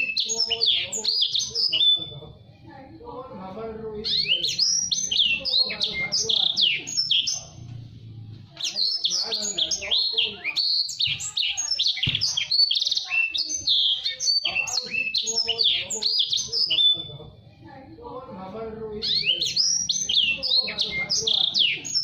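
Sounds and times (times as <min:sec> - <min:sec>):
canary singing chirps and trills: 0:00.0 - 0:22.0.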